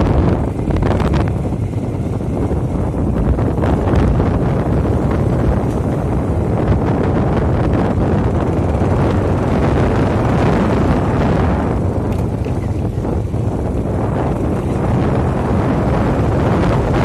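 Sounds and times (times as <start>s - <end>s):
motorcycle running: 0.0s - 17.0s
wind buffeting microphone: 0.0s - 17.0s.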